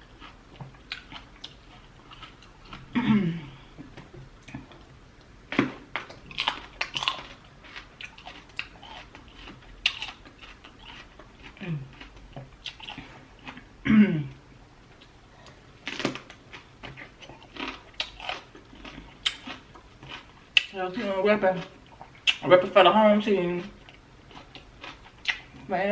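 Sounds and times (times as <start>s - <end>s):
person chewing food: 0.0s - 22.4s, 23.6s - 25.7s.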